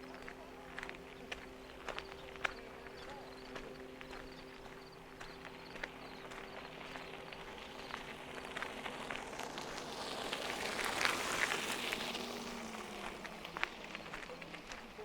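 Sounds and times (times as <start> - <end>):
footsteps crunching on gravel: 0.0 - 15.0.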